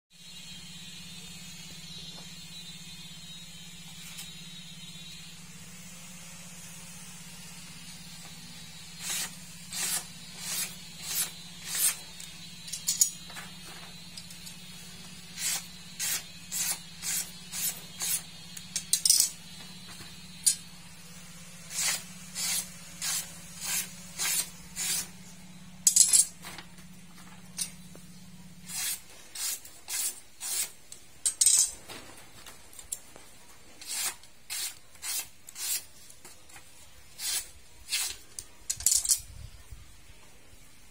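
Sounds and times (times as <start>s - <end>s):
faint low hum: 0.2s - 40.9s.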